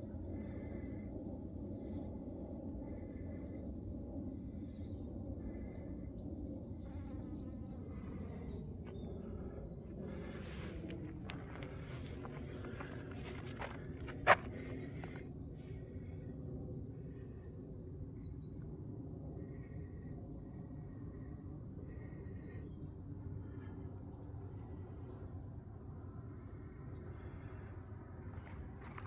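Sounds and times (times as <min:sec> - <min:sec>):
low background rumble: 0:00.0 - 0:29.0
small birds chirping: 0:01.8 - 0:18.7, 0:19.4 - 0:29.0.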